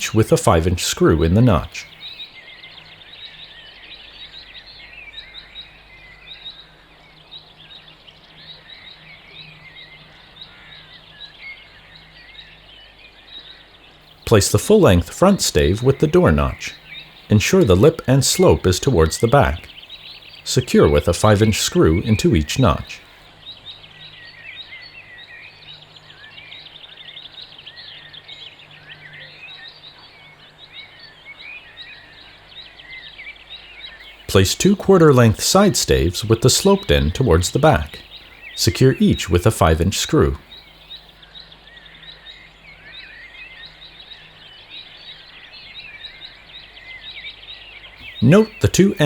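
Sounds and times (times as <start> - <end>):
faint background noise: 0.0 - 49.0
small birds chirping and twittering: 0.0 - 49.0.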